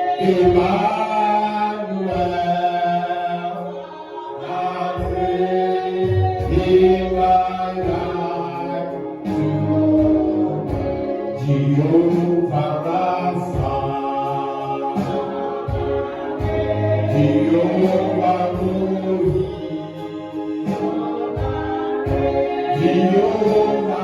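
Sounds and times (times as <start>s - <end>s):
band with bass: 0.0s - 24.0s
congregation singing gospel: 0.0s - 24.0s.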